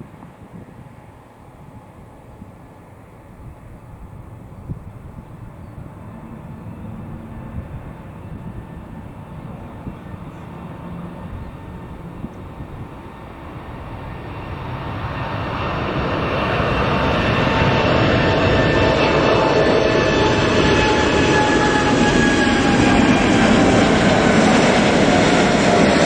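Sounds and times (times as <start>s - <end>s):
jet engine rumble: 0.0s - 26.0s
jet engine whine: 0.0s - 26.0s.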